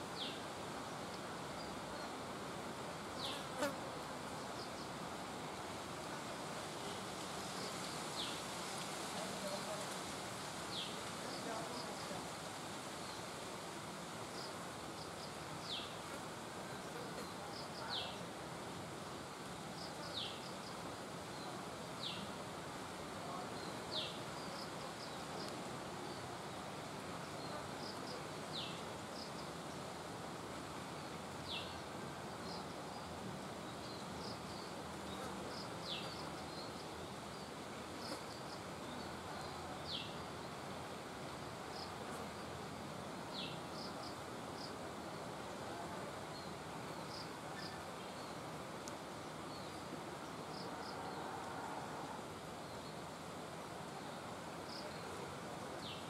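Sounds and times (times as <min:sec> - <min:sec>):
outdoor ambience hiss: 0:00.0 - 0:56.0.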